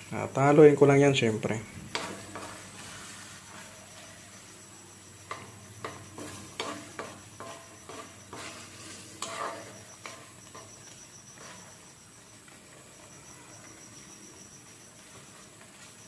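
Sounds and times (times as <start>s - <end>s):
faint sizzle: 0.0s - 16.0s
wooden spoon scraping a wok: 1.6s - 4.5s, 5.3s - 16.0s.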